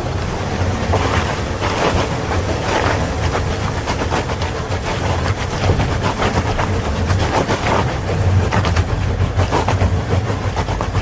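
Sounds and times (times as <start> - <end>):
body and tyres clattering: 0.0 - 11.0
van engine humming under load: 0.0 - 11.0.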